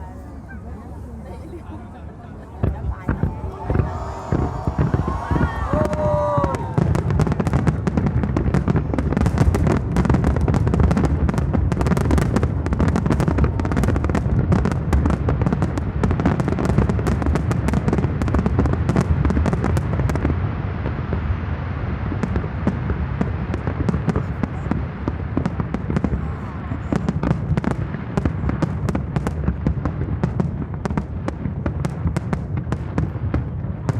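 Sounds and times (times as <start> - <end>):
fireworks cracking and banging: 2.5 - 21.3, 22.0 - 33.9.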